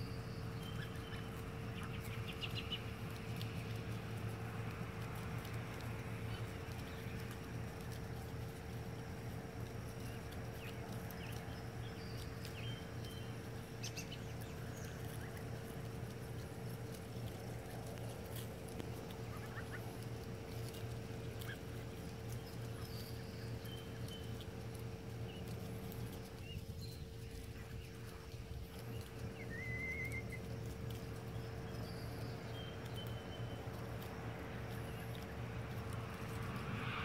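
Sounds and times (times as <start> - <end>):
goslings pecking and munching: 0.0 - 37.0
steady low hum: 0.0 - 37.0
goslings peeping: 0.1 - 36.8.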